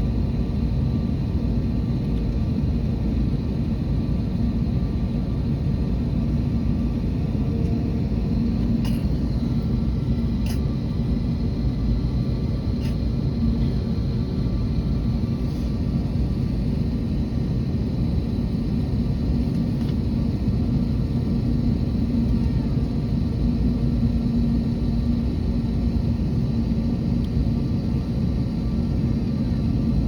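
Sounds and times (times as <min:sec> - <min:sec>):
airliner low rumble: 0:00.0 - 0:30.0.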